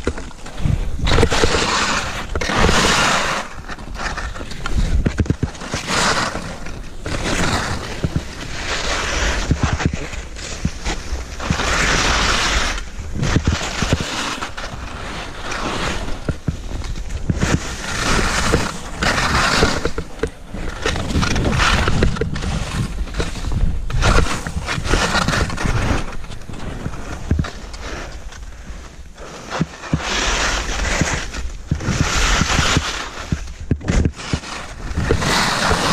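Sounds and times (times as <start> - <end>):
skis scraping through snow: 0.0 - 35.9
wind rumble on microphone: 0.0 - 35.9.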